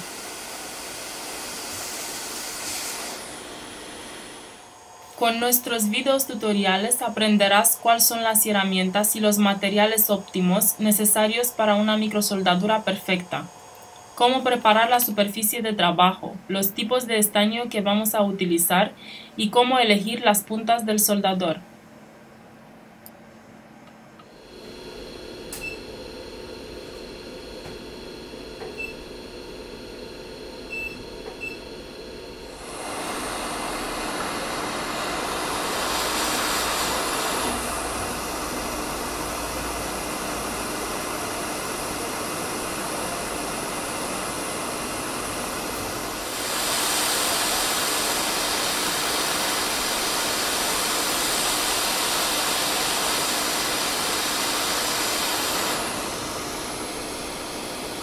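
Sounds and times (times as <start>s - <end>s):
hot air station blowing: 0.0s - 16.2s, 24.2s - 58.0s.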